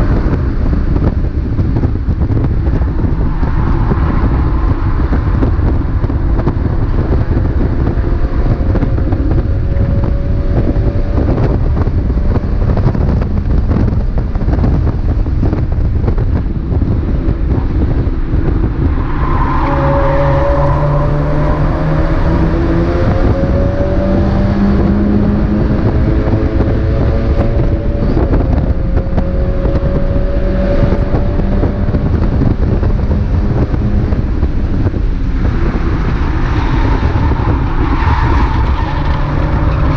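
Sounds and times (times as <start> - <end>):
race car engine revving: 0.0 - 39.9
road noise: 0.0 - 39.9
wind noise: 0.0 - 39.9.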